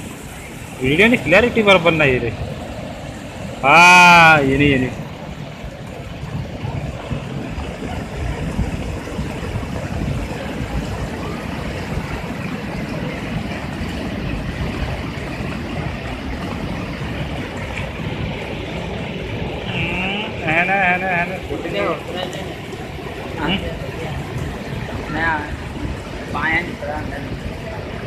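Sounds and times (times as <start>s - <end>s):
water rushing over weir: 0.0s - 28.0s.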